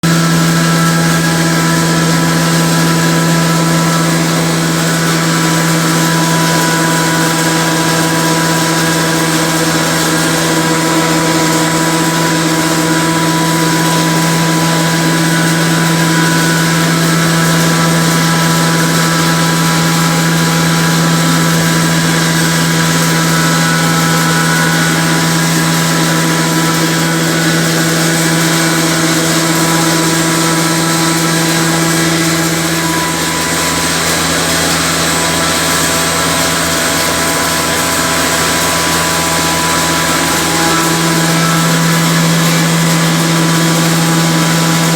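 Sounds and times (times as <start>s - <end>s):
wet grinder motor humming: 0.0s - 44.9s.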